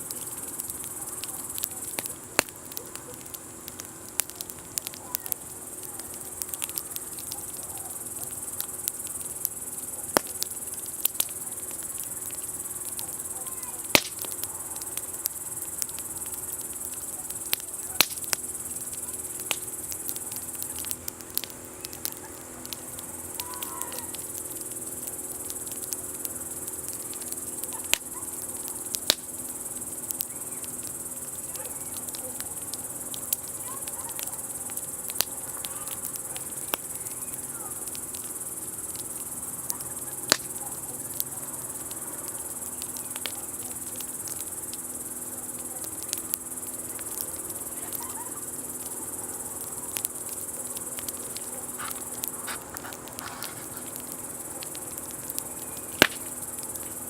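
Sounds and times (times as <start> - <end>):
campfire crackling: 0.0 - 57.0
crickets chirring: 0.0 - 57.0.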